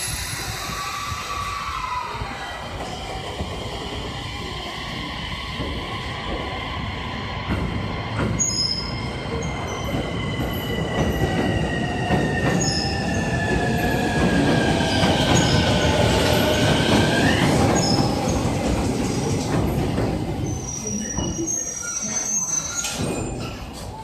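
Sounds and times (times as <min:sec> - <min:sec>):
train wheel rumble: 0:00.0 - 0:21.5.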